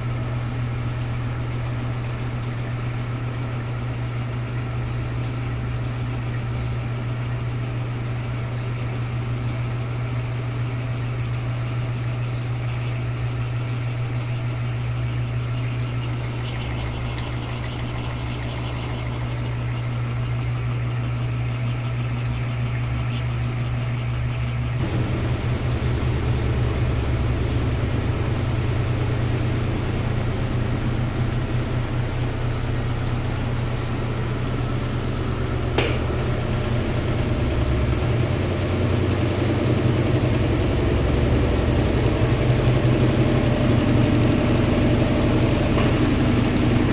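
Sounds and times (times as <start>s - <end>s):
washing machine running: 0.0s - 46.9s.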